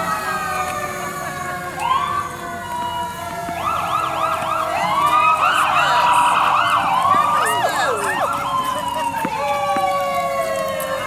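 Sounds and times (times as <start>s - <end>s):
siren wail: 0.0s - 11.0s
siren yelps: 0.0s - 11.0s.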